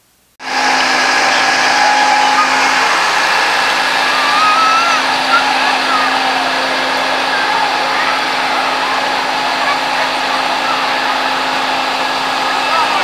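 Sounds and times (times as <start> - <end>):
blower motor drone: 0.4 - 13.0
faint distant voices: 0.4 - 13.0.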